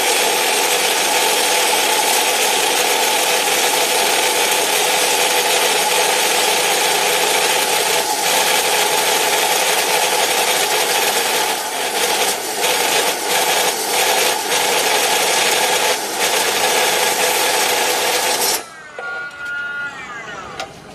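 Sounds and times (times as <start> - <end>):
power saw cutting: 0.0 - 18.7.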